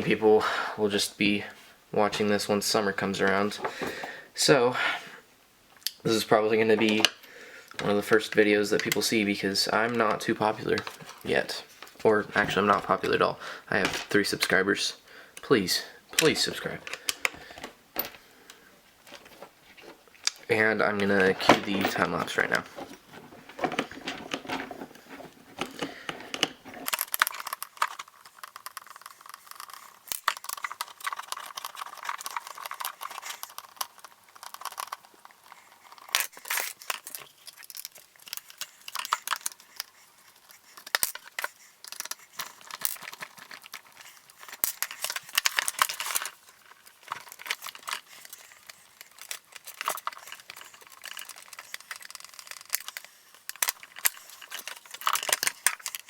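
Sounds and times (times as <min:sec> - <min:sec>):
parts and tools clicking and rattling: 0:06.7 - 0:14.6, 0:16.2 - 0:56.0.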